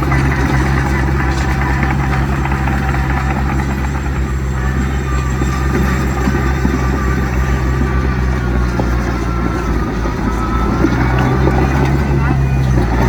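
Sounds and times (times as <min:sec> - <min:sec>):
diesel machinery engine running: 0:00.0 - 0:13.0.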